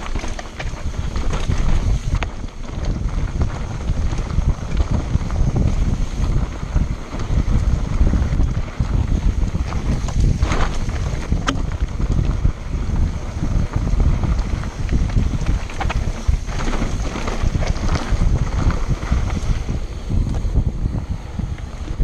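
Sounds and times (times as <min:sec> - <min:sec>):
bike tyres rumbling and rattling: 0:00.0 - 0:22.0
wind buffeting microphone: 0:00.0 - 0:22.0.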